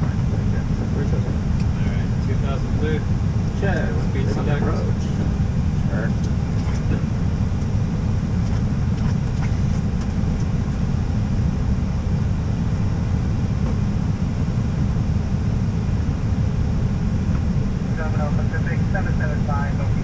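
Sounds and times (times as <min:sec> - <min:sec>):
airflow and engine rumble: 0:00.0 - 0:20.0.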